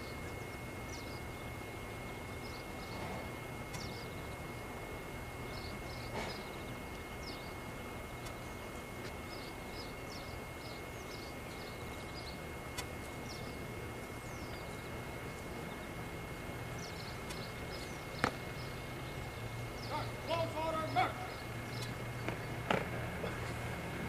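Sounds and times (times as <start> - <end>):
small bird chirping: 0.0 - 4.5, 5.4 - 16.0, 16.6 - 22.6
outdoor background noise: 0.0 - 24.0.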